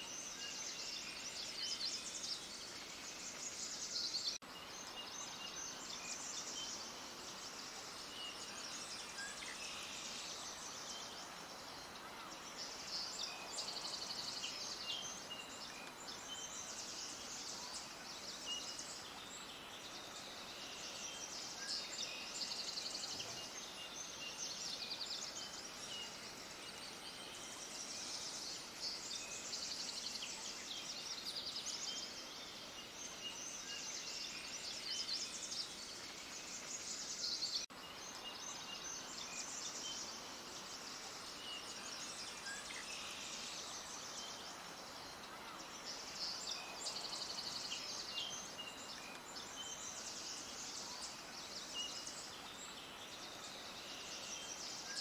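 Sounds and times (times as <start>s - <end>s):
background hiss: 0.0s - 55.0s
small birds chirping: 0.0s - 55.0s.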